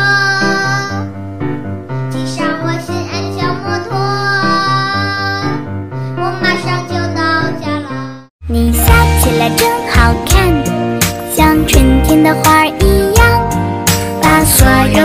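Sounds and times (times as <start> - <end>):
pop song with high singing voice: 0.0 - 1.1, 2.1 - 15.0.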